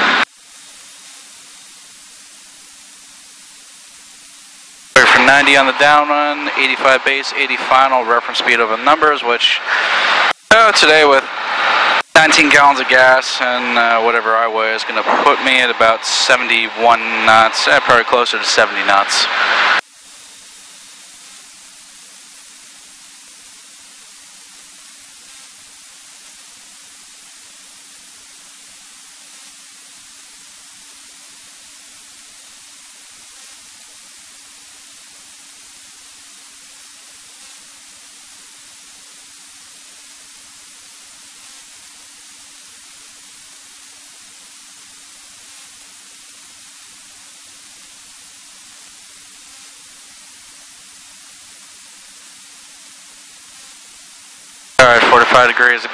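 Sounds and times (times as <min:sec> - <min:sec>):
faint steady hum: 0:00.0 - 0:55.9
static hiss: 0:00.0 - 0:55.9.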